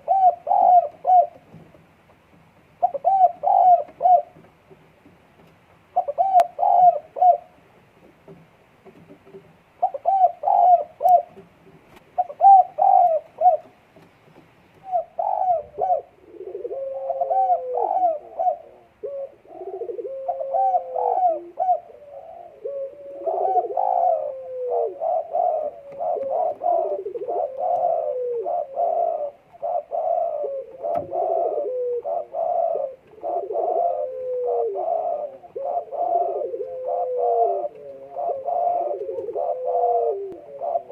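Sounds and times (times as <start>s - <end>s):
dove cooing: 0.0s - 1.6s, 2.8s - 4.5s, 5.9s - 7.6s, 9.8s - 13.8s, 14.8s - 40.9s.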